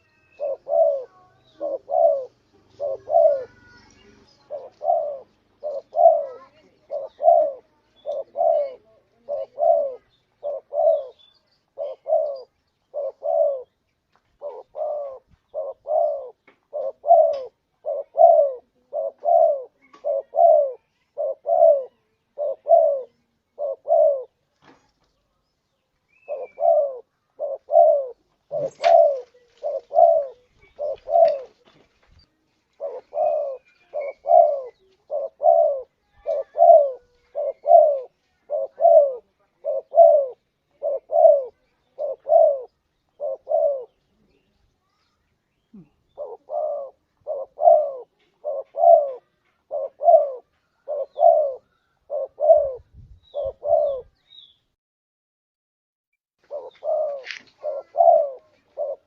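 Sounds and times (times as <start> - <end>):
dove cooing: 0.0 - 24.4, 26.1 - 31.8, 32.7 - 44.5, 45.6 - 54.2, 56.4 - 59.0.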